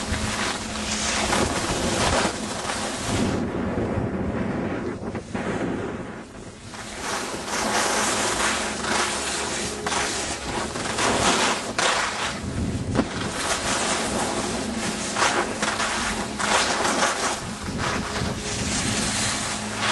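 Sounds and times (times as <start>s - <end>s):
skis hissing on snow: 0.0s - 3.4s, 6.7s - 19.9s
wind rushing over microphone: 0.0s - 19.9s.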